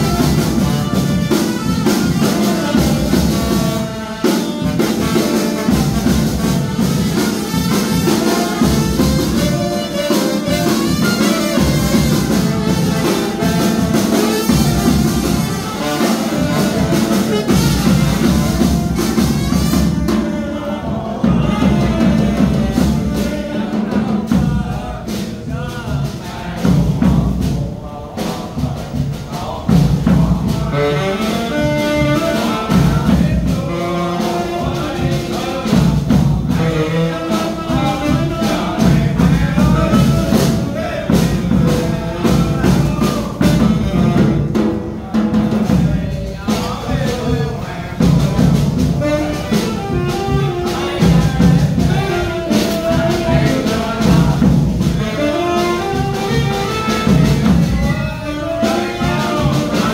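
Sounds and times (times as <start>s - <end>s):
bass drum beat: 0.0s - 59.9s
saxophone and trombone melody: 0.0s - 59.9s
snare drum: 0.0s - 59.9s.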